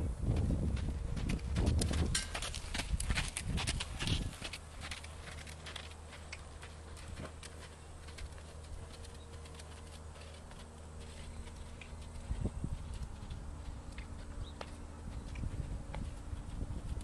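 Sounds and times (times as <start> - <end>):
low steady hum: 0.0 - 17.0
footsteps on sandy dirt: 0.2 - 17.0.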